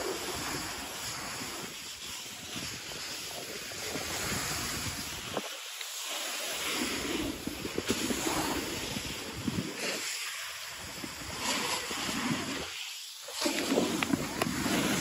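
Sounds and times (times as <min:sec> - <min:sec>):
wind rushing over microphone: 0:00.0 - 0:05.6, 0:06.6 - 0:12.8, 0:13.4 - 0:15.0
snowboard edge scraping snow: 0:00.0 - 0:15.0.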